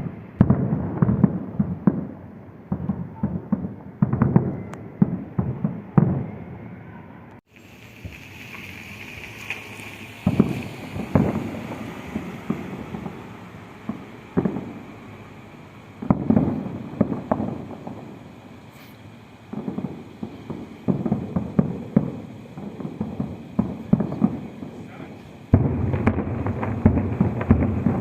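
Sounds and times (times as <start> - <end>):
fireworks booming: 0.0 - 28.0.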